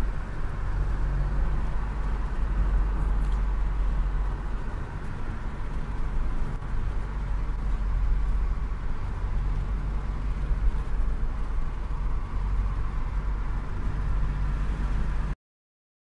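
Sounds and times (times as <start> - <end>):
car road noise: 0.0 - 15.4.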